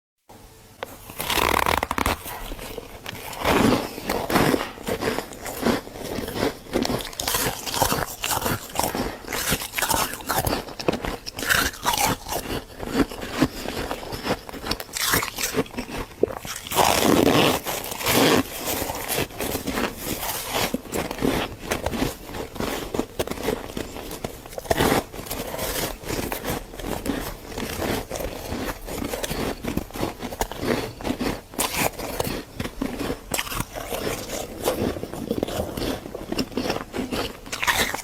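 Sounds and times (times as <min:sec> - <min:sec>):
frost being chewed crunching: 0:00.8 - 0:38.0.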